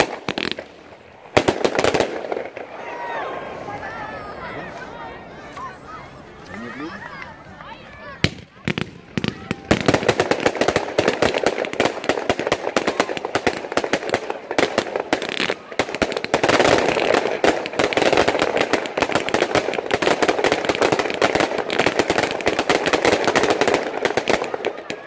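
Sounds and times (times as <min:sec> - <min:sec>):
fireworks firing rapid volley: 0:00.0 - 0:03.8, 0:08.0 - 0:25.0
firework stars crackling: 0:00.0 - 0:25.0.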